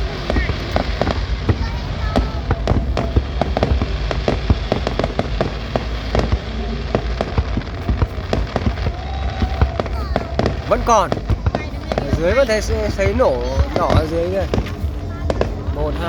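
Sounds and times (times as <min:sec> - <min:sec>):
fireworks bangs and crackling: 0:00.0 - 0:16.0
low rumble: 0:00.0 - 0:16.0.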